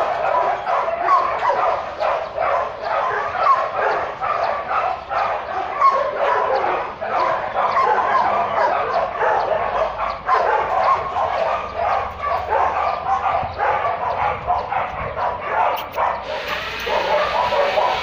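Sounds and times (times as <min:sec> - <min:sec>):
many dogs barking and yelping: 0:00.0 - 0:18.0.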